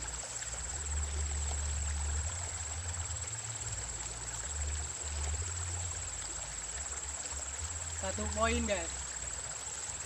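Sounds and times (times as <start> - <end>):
small river flowing: 0.0 - 10.0.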